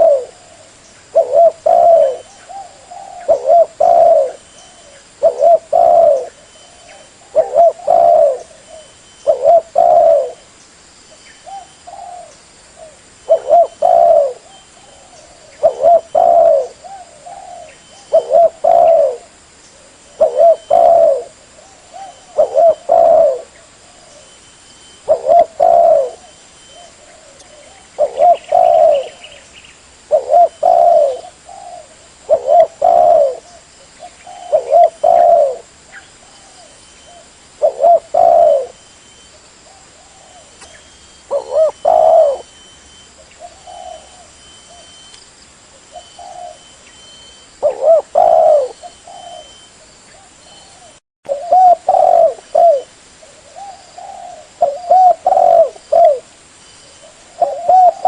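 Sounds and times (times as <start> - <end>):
dove cooing: 0.0 - 10.5, 11.4 - 29.4, 30.0 - 38.9, 39.6 - 45.1, 45.8 - 56.3, 56.9 - 58.0
faint steady hiss: 0.0 - 58.0.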